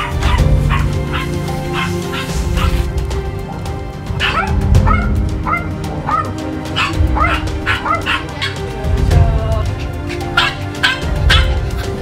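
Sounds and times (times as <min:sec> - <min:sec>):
dogs barking and yelping: 0:00.0 - 0:02.9, 0:04.1 - 0:08.8, 0:09.8 - 0:12.0
background music with held notes: 0:00.0 - 0:12.0.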